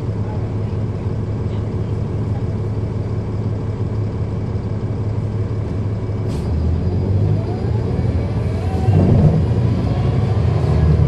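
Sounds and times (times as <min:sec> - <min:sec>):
bus diesel engine humming: 0:00.0 - 0:11.0.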